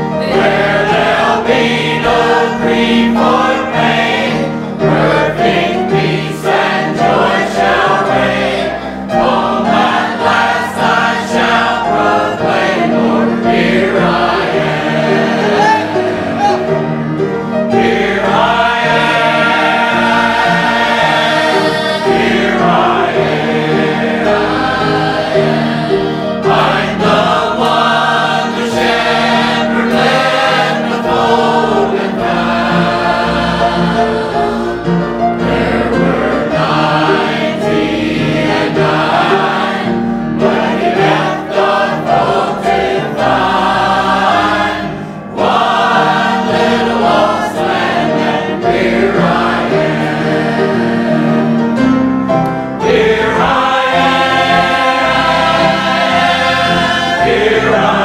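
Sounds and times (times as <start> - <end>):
mixed choir singing a hymn: 0.0 - 58.0.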